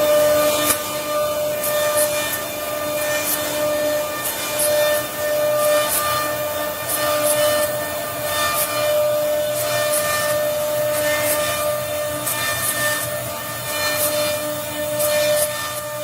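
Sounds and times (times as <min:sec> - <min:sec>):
bit cutting wood with hissing scrapes: 0:00.0 - 0:16.0
router spindle whining: 0:00.0 - 0:16.0.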